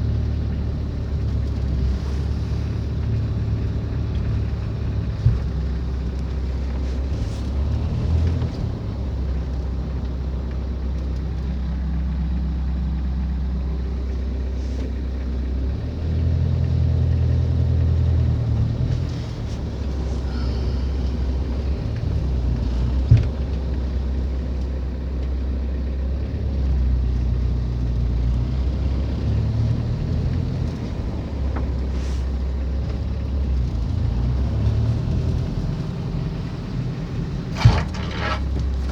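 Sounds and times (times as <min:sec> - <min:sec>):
vehicle engine low drone: 0:00.0 - 0:38.9.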